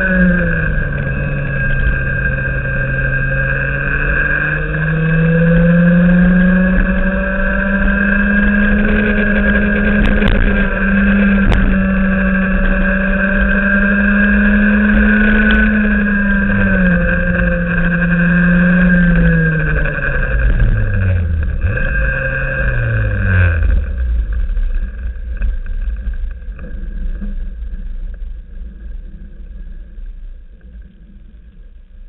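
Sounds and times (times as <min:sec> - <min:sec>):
kart engine running hard: 0:00.0 - 0:27.0.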